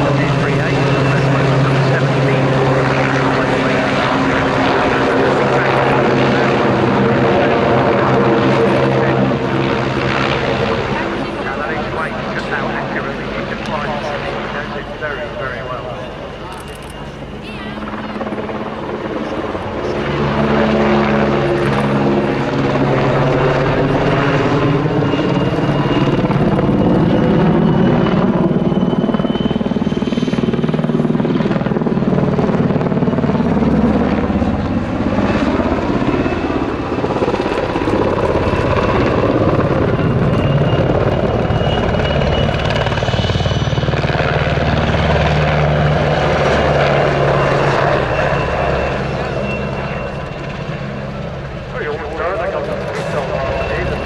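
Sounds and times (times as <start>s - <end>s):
helicopter rotor beating: 0.0s - 54.0s
helicopter turbine whine: 0.0s - 54.0s.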